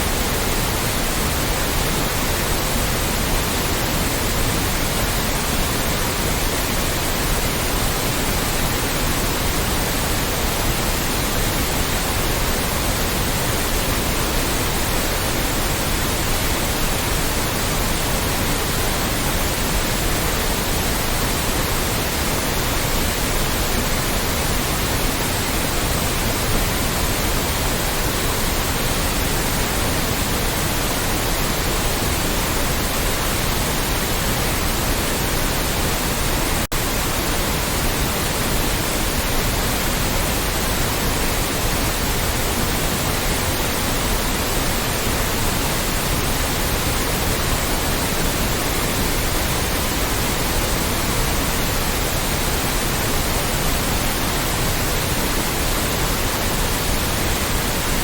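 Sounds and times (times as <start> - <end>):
loud white noise hiss: 0.0 - 58.0.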